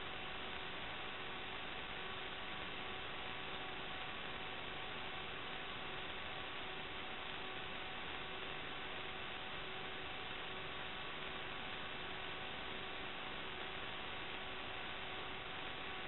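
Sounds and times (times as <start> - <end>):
electrical noise hiss: 0.0 - 16.0
faint steady electronic tones: 0.0 - 16.0.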